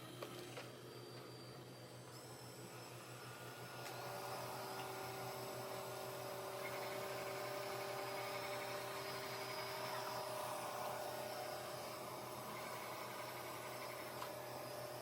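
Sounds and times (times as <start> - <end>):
robot vacuum motor hum: 0.0 - 15.0.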